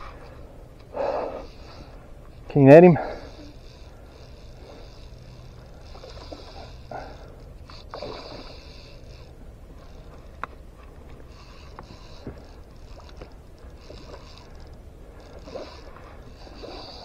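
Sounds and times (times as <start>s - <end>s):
low water rumble: 0.0s - 17.0s.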